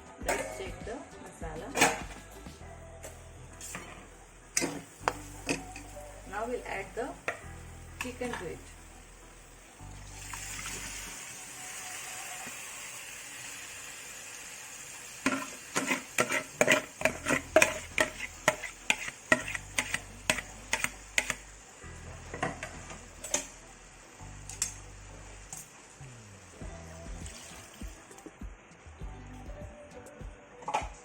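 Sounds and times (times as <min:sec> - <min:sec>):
curry sizzling in a pot: 0:03.1 - 0:28.2.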